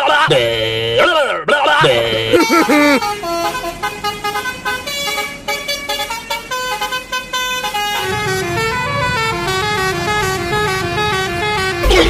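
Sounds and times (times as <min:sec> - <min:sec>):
multi-tone bus horn melody: 0:01.9 - 0:11.9.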